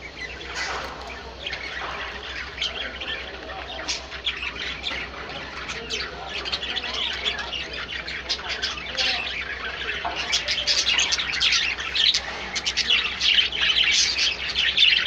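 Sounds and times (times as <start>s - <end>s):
caged birds chattering: 0.0s - 15.0s.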